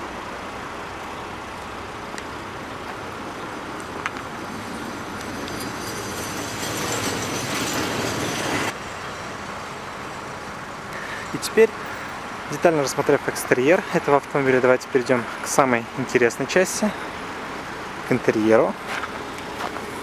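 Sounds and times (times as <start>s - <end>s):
passing vehicle rushing: 0.0s - 20.0s.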